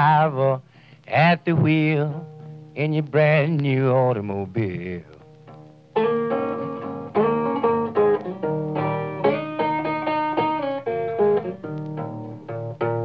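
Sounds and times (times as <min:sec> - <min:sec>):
blues guitar picking: 0:00.0 - 0:13.0.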